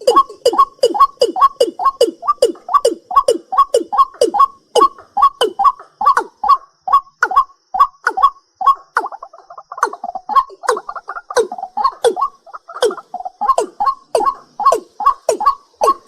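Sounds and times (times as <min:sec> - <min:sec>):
bird calling knocking notes: 0:00.0 - 0:16.0.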